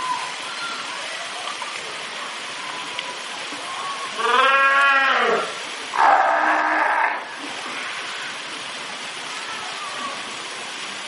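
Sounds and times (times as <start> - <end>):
pool water rushing: 0.0 - 11.0.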